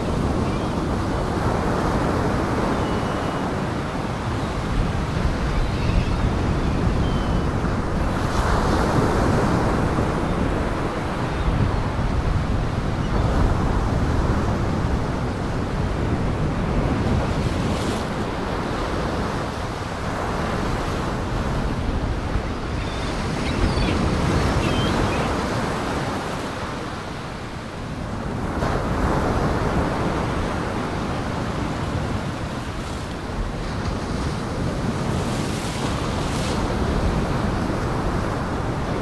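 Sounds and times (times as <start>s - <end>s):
wind: 0.0s - 39.0s.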